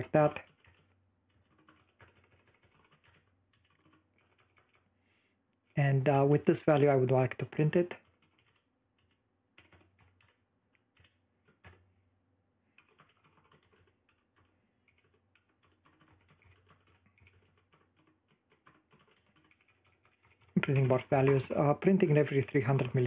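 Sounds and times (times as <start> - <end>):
faint typing on keyboard: 0.0 - 23.0.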